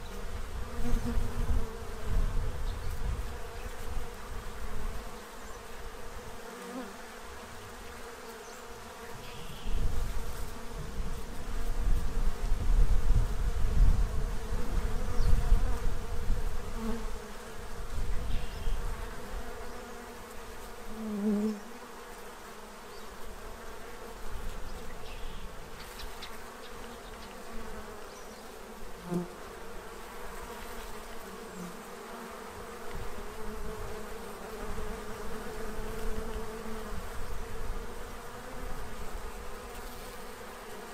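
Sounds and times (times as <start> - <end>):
bees buzzing: 0.0 - 12.6, 13.8 - 40.9.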